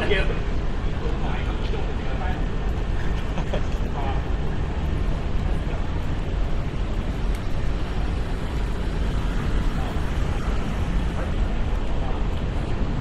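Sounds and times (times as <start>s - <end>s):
city street low rumble: 0.0s - 13.0s.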